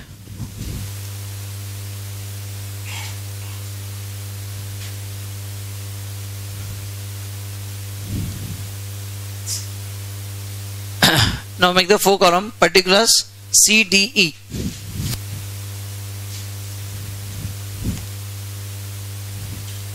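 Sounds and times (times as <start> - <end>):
microphone hiss: 0.0 - 19.9
steady electrical hum: 0.0 - 19.9.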